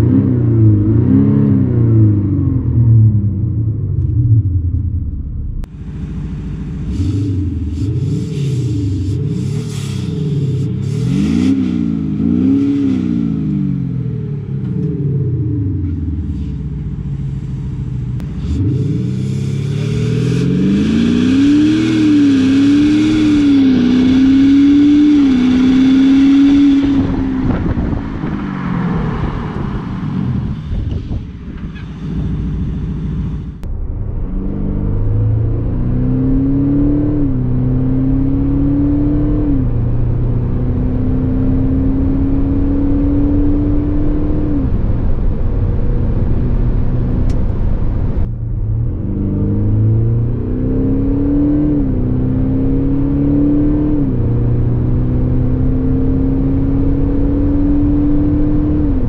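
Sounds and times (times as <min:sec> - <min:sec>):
diesel engine revving: 0:00.0 - 0:59.0
car accelerating with upshifts: 0:05.6 - 0:59.0.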